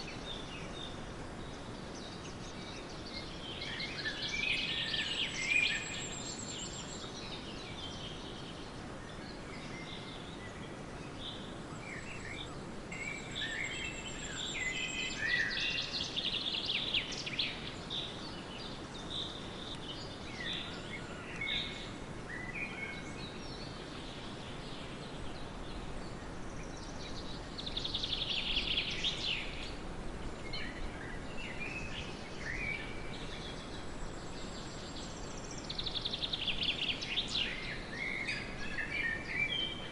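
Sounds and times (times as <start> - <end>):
birds singing and chirping: 0.0 - 39.9
steady background hiss: 0.0 - 39.9.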